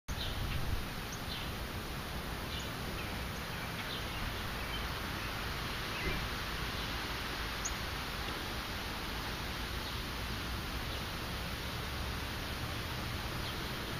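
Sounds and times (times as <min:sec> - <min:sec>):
birds chirping: 0:00.1 - 0:13.9
outdoor background hiss: 0:00.1 - 0:13.9.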